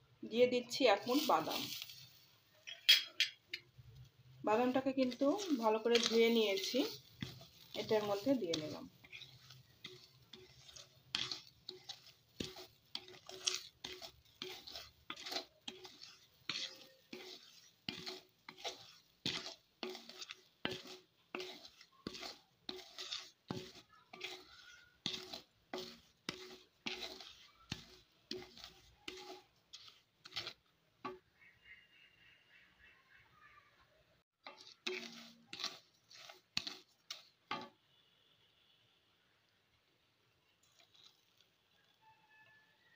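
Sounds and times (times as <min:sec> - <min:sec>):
wooden spatula scraping rice in pan: 0:00.7 - 0:02.8, 0:04.0 - 0:31.9, 0:34.4 - 0:38.7, 0:40.4 - 0:42.9.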